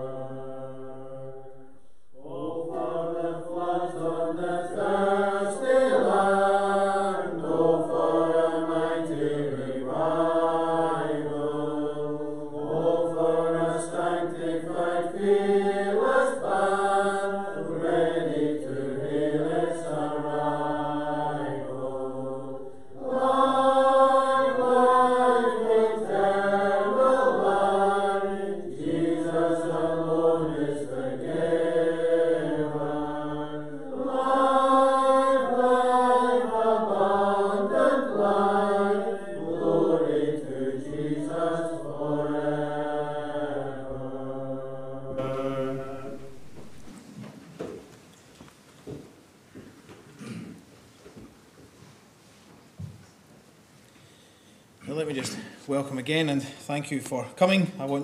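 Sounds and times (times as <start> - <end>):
congregation singing a hymn: 0.0 - 47.8.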